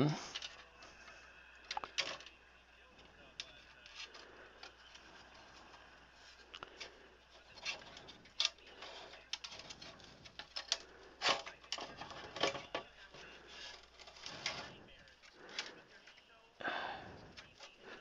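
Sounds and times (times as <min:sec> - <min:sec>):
metal and wires rustling: 0:00.0 - 0:18.0.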